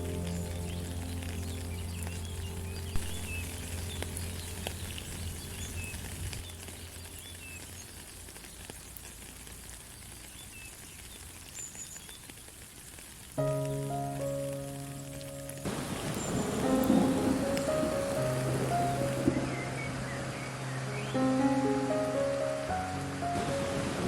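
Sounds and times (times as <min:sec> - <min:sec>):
small birds chirping: 0:00.0 - 0:23.5
light rain pattering: 0:00.0 - 0:24.0.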